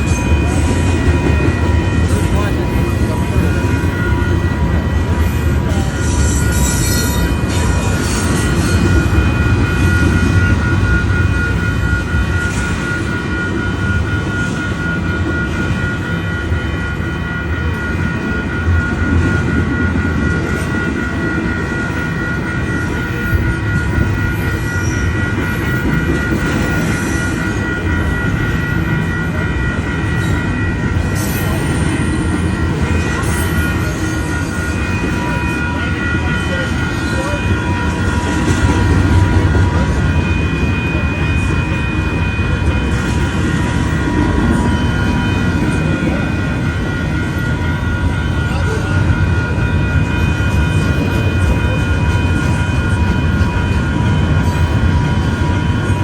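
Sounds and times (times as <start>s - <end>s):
crossing bell ringing: 0.0s - 56.0s
train wheels rumbling on rails: 0.0s - 56.0s.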